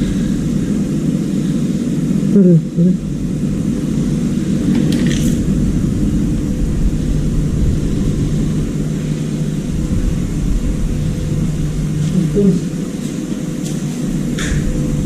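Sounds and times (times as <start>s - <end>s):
machinery rumbling: 0.0s - 15.0s.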